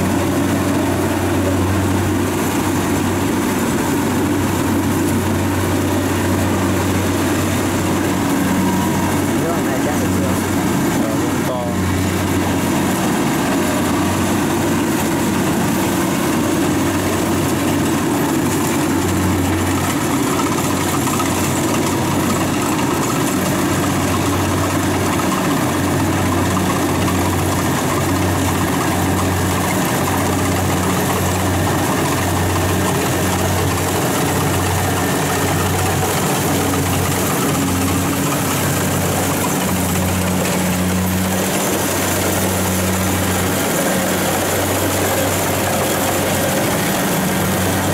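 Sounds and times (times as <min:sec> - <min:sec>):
combine harvester engine drone: 0:00.0 - 0:47.9
machinery noise: 0:00.0 - 0:47.9.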